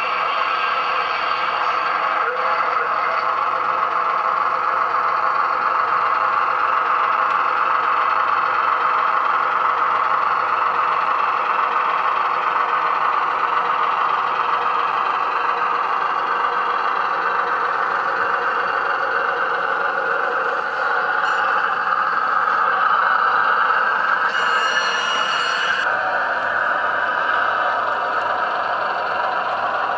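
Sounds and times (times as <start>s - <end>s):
model train diesel engine sound: 0.0s - 29.9s.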